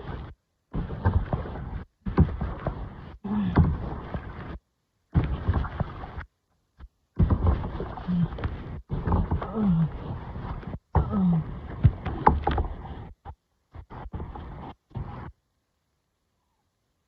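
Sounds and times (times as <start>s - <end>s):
water noise: 0.0s - 15.3s.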